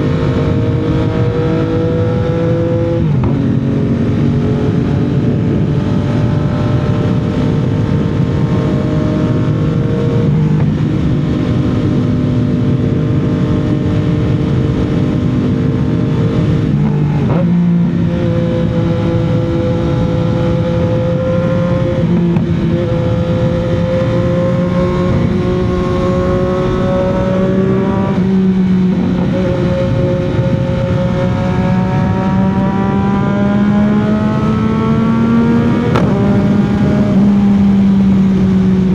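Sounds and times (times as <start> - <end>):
rush of road noise: 0.0 - 38.9.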